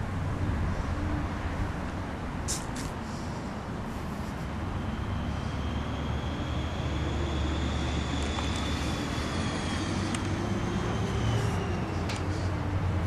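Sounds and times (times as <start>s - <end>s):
faint held whine: 0.0s - 13.0s
low rumble of road traffic: 0.0s - 13.0s.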